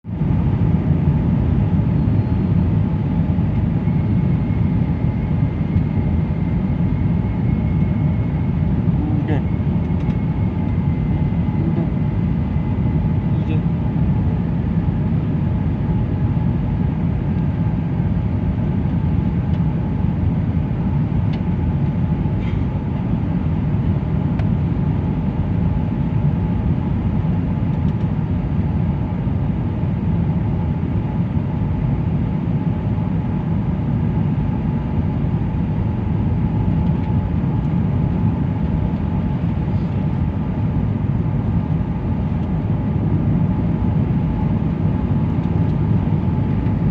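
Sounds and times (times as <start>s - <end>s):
airliner cabin rumble: 0.1s - 46.9s.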